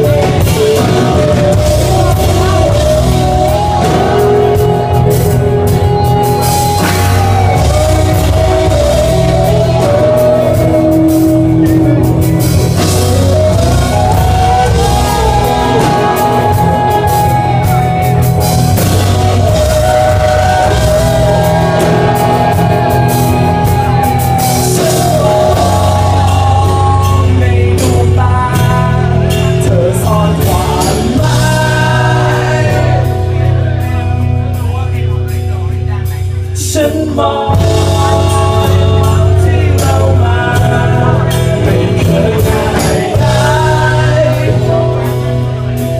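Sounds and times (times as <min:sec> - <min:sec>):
bass and drums: 0:00.0 - 0:45.9
gliding lead guitar melody: 0:00.0 - 0:45.9.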